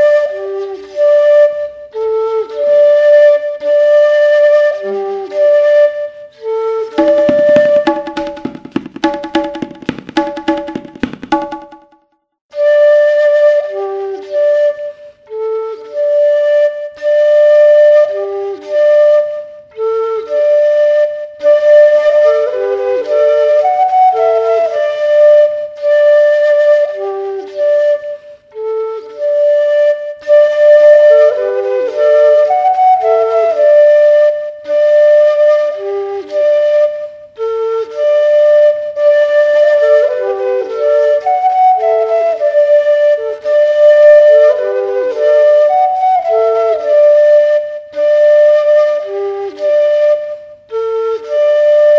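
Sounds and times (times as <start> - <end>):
bamboo flute melody: 0.0 - 51.9.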